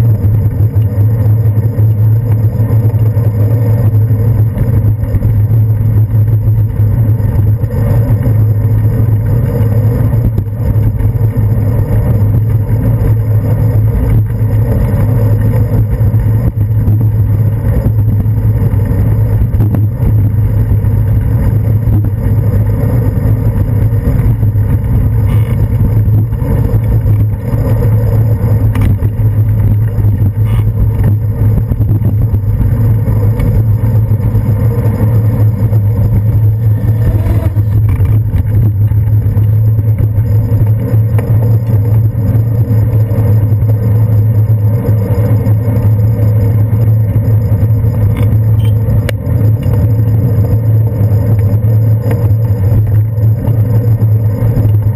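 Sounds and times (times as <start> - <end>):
buses and taxis noise: 0.0 - 54.9
low rumble of moving bicycle: 0.0 - 54.9.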